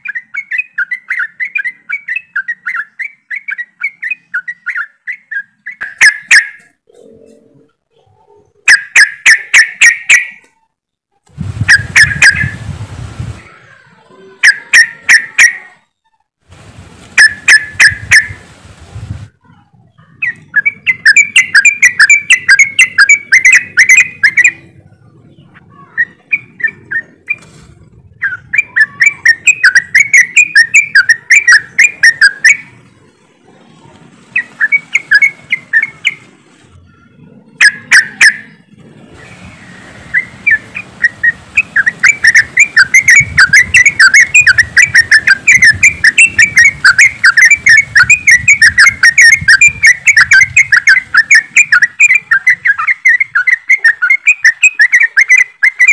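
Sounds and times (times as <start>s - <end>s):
birds chattering: 0.0s - 11.0s, 11.7s - 12.6s, 13.4s - 16.0s, 17.2s - 18.4s, 19.4s - 55.9s.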